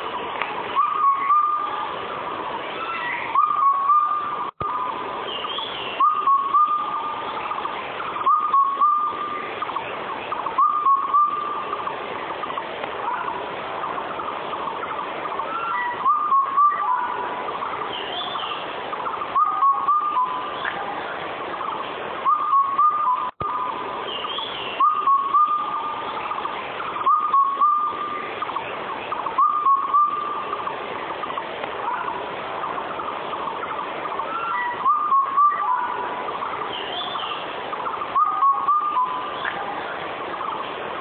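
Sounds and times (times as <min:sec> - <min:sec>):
background hiss: 0:00.0 - 0:41.0
cuckoo calling: 0:00.0 - 0:41.0
faint high bird chirp: 0:00.2 - 0:02.0, 0:02.6 - 0:13.4, 0:14.0 - 0:40.7.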